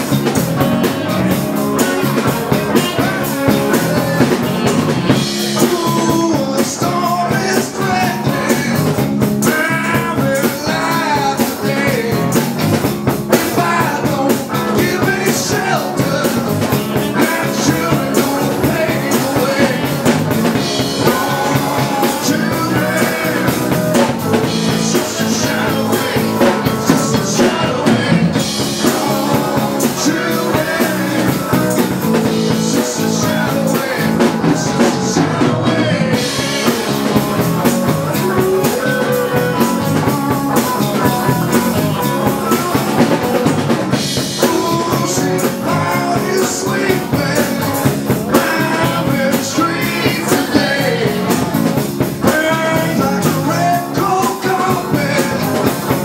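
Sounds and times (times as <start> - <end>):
drum kit: 0.0 - 56.0
electric guitar lead line: 0.0 - 56.0.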